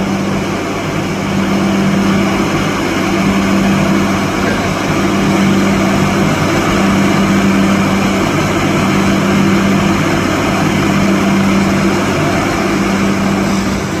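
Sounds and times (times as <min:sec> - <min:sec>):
drilling rig humming: 0:00.0 - 0:14.0.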